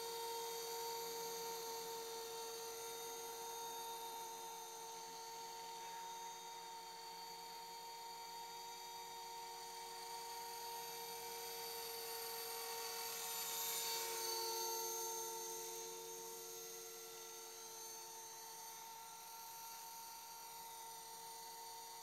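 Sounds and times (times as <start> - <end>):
model helicopter whine: 0.0 - 22.0.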